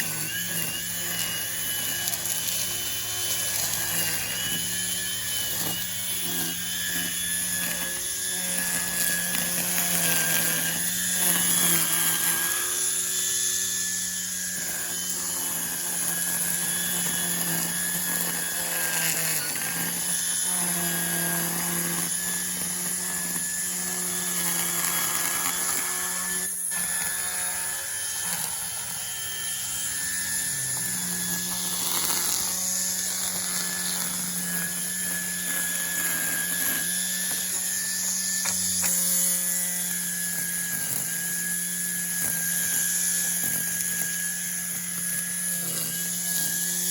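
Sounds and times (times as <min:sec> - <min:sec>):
string trimmer cutting grass: 0:00.0 - 0:46.9.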